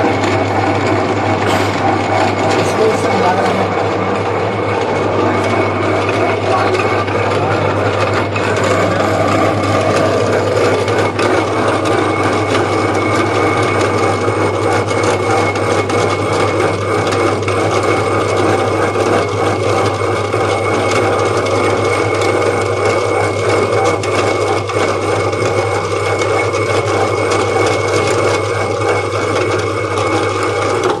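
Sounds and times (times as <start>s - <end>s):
lathe humming and whining: 0.0s - 31.0s.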